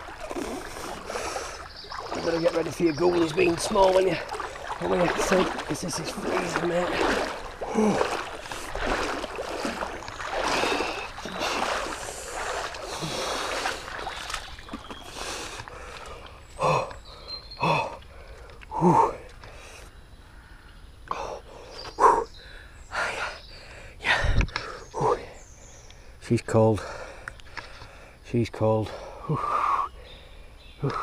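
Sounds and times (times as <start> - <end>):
wading and splashing through stream: 0.0 - 20.0, 21.1 - 31.0.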